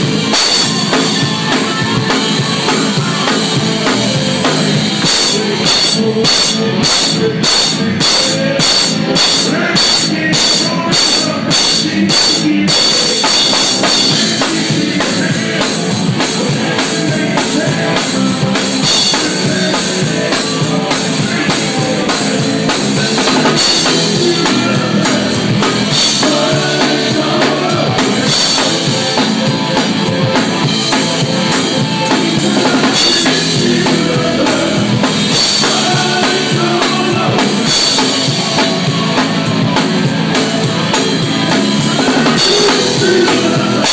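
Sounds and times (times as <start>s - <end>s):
drum kit beat: 0.0s - 43.9s.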